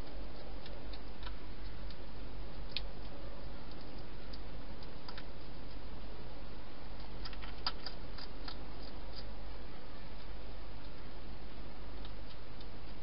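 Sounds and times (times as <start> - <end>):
hedgehog crunching food: 0.0 - 6.1, 6.8 - 13.0
background hiss and hum: 0.0 - 13.0.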